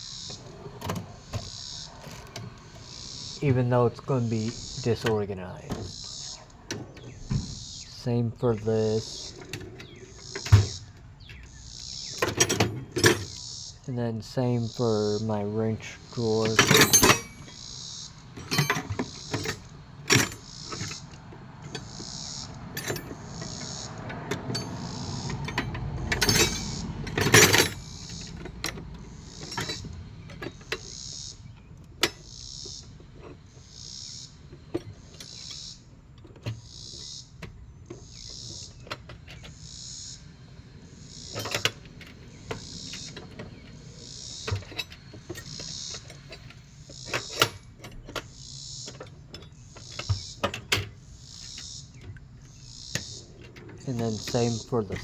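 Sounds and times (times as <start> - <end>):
cricket chirping: 0.0 - 55.0
drawer rolling and shutting: 0.1 - 7.8, 8.4 - 13.5, 16.2 - 55.0
metal tools clinking: 0.3 - 13.5, 14.8 - 33.5, 41.0 - 55.0.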